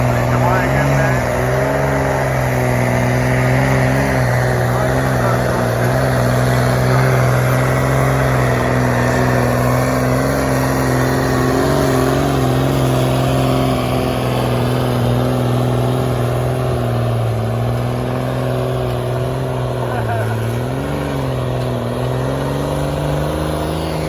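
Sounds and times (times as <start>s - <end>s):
tractor engine under heavy load: 0.0s - 24.0s.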